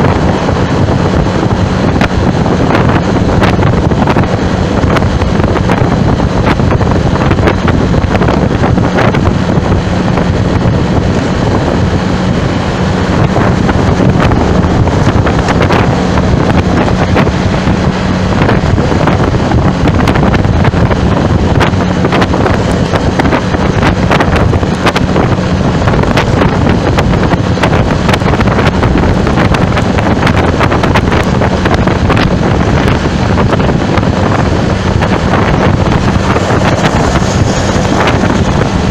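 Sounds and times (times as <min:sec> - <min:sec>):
low hum: 0:00.0 - 0:38.9
wind buffeting microphone: 0:00.0 - 0:38.9.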